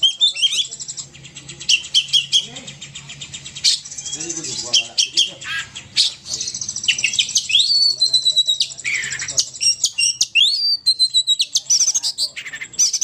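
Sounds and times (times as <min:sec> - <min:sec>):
bird chirps and trills: 0:00.0 - 0:13.0.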